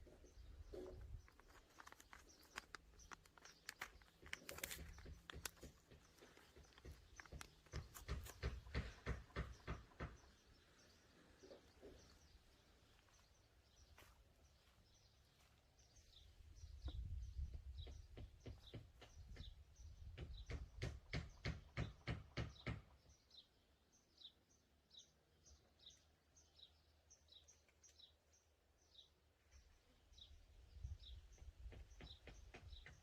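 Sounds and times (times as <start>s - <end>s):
small bird chirping: 0.0s - 33.0s.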